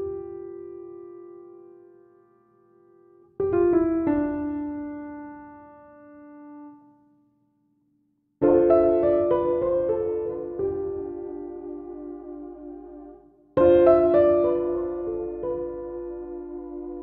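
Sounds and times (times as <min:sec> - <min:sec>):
slow solo piano: 0:00.0 - 0:07.0, 0:08.4 - 0:17.0.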